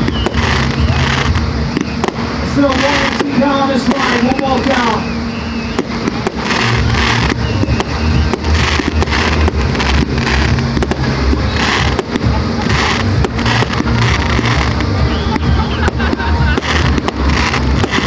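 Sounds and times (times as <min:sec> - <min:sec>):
fireworks popping and crackling: 0:00.0 - 0:18.0
heavy low rumble: 0:00.0 - 0:18.0.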